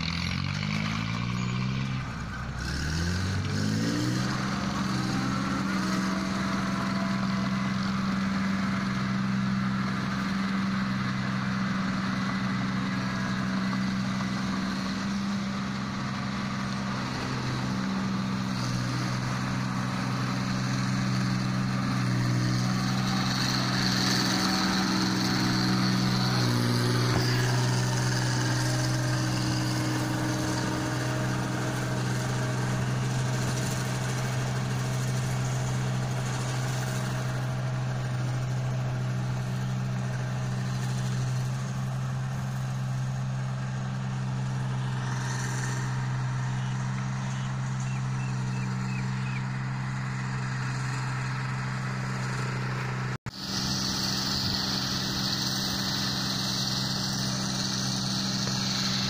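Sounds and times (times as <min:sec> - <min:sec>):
combine harvester engine hum: 0:00.0 - 0:59.0.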